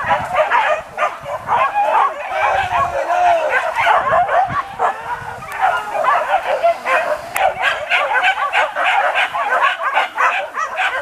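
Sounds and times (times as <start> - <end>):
dogs yelping and barking: 0.0 - 11.0.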